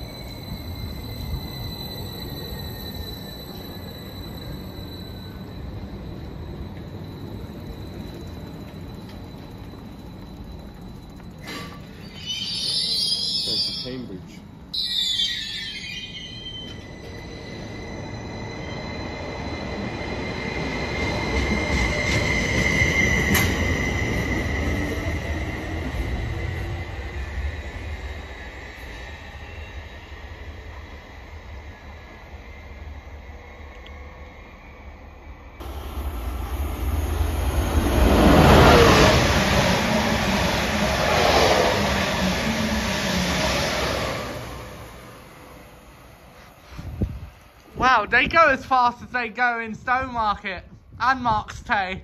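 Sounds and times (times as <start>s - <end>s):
train passing at speed: 0.0s - 51.4s.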